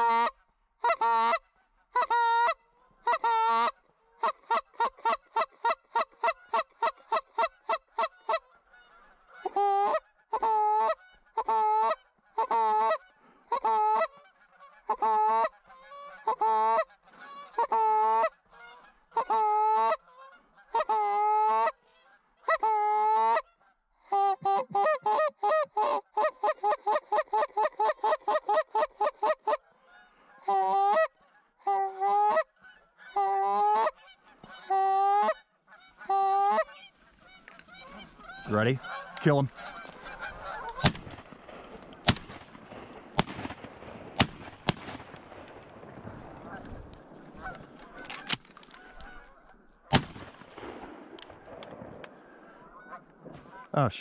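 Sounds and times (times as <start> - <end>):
goose honking: 0.0 - 42.2, 46.3 - 49.8, 52.4 - 53.9.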